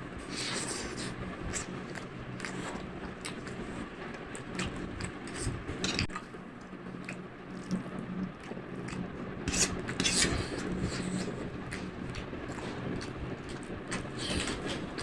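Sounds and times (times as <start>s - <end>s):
chewing: 0.4s - 15.0s.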